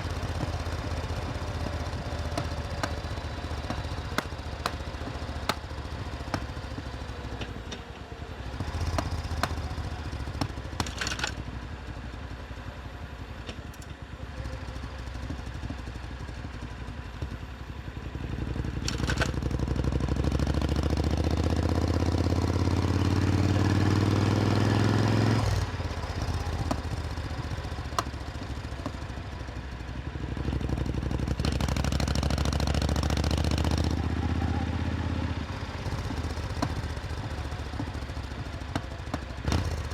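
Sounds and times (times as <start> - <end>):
motorcycle engine revving: 0.0 - 7.7, 8.4 - 11.4, 18.2 - 39.9.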